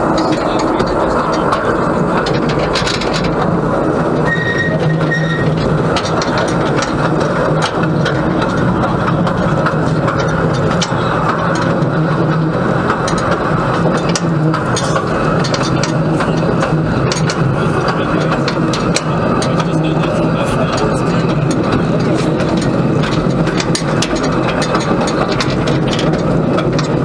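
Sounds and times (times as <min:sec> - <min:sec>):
steam locomotive running on rails: 0:00.0 - 0:27.0.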